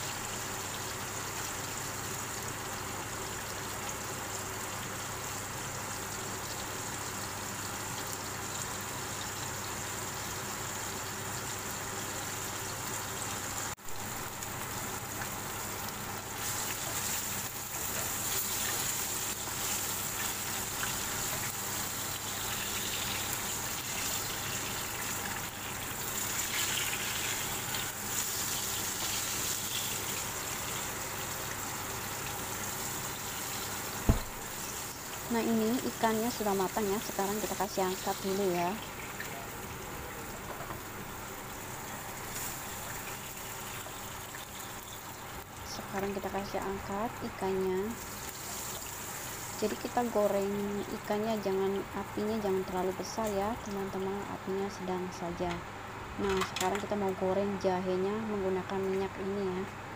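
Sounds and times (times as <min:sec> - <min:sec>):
fish sizzling in a pan: 0:00.0 - 0:51.6.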